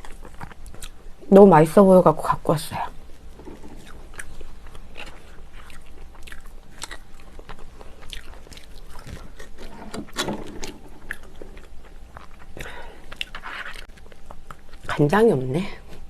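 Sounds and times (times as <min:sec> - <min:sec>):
chewing and biting food: 0:00.0 - 0:01.3, 0:02.8 - 0:15.1.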